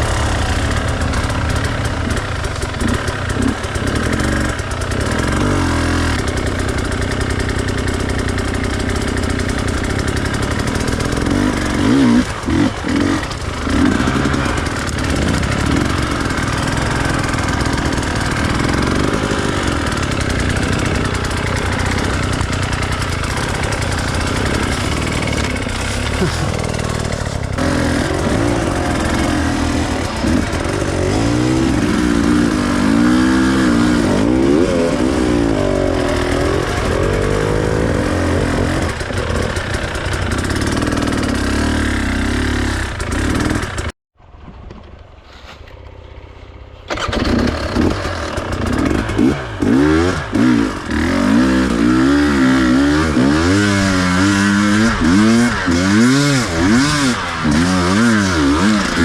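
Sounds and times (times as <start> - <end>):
dirt bike engine revving: 0.0 - 43.9, 46.8 - 59.0.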